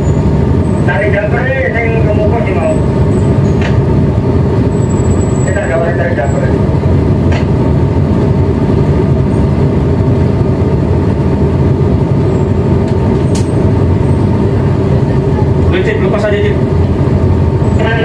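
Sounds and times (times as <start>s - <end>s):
diesel engine low rumble: 0.0s - 18.0s.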